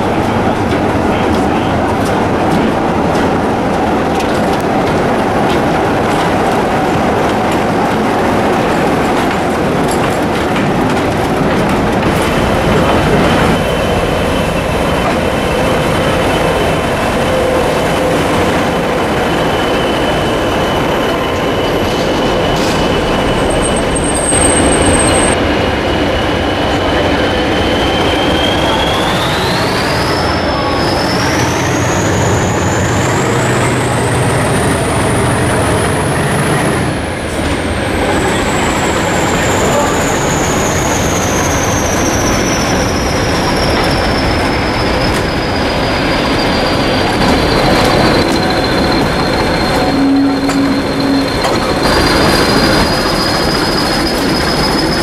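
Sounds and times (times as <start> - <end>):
locomotive engine rumble: 0.0 - 55.0.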